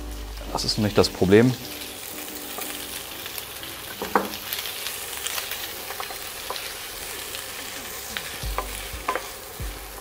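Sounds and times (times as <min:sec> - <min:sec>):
food sizzling in butter: 0:00.0 - 0:10.0.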